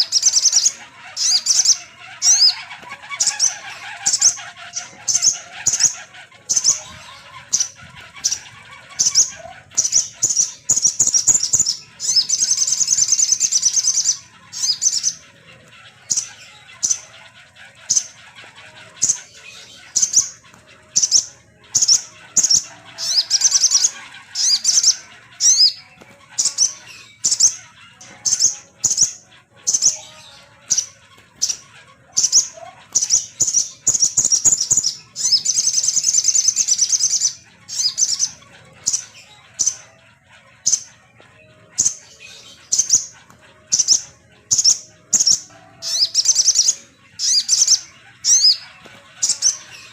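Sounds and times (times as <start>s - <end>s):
bird song with trills: 0.0s - 49.9s.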